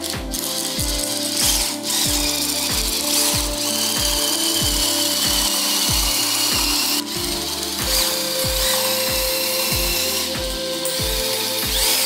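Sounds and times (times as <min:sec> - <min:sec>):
background music with bass beat: 0:00.0 - 0:12.0
cordless drill shaving wooden dowel: 0:00.0 - 0:12.0.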